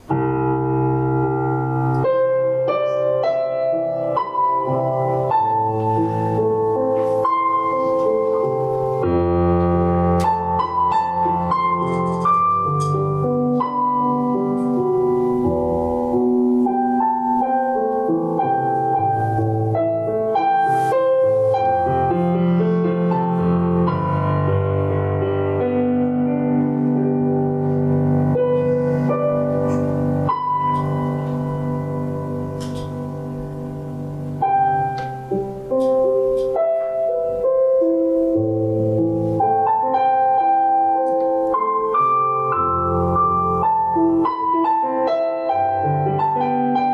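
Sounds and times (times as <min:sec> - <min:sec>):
slow calm piano music: 0:00.0 - 0:46.9.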